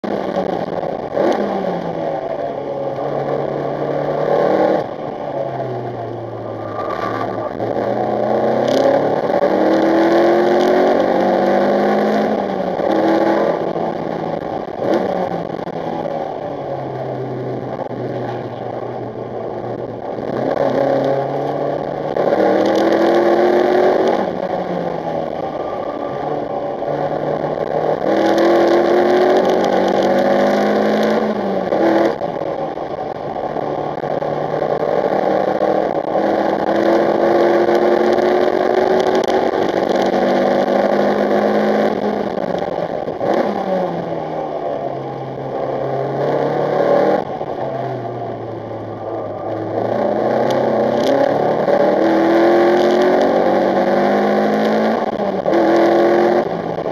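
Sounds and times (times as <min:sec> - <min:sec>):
car engine revving hard: 0:00.0 - 0:56.9.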